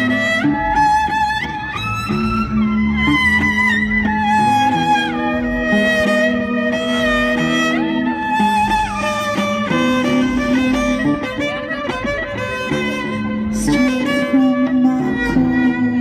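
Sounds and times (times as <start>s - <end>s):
melody of sliding notes: 0.0s - 16.0s.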